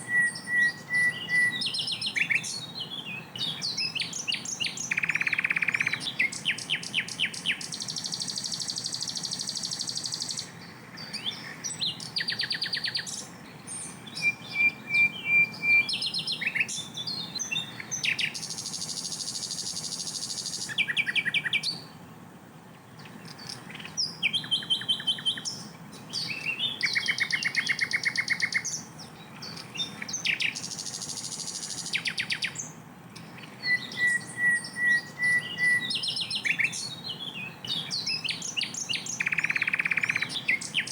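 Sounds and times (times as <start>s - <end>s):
flycatcher singing: 0.0s - 22.0s, 23.0s - 40.9s.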